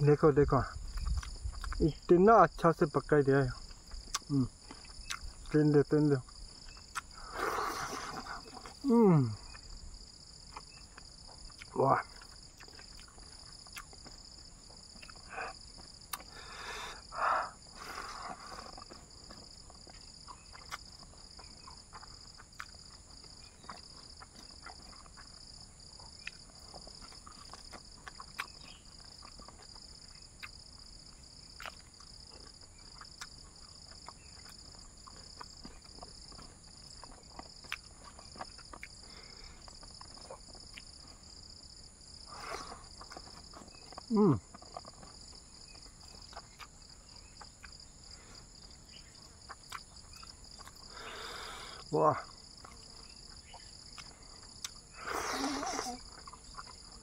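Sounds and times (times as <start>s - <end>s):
high-pitched insect chorus: 0.0s - 57.0s
chewing with wet smacks: 0.8s - 2.2s, 3.5s - 51.2s, 51.8s - 57.0s.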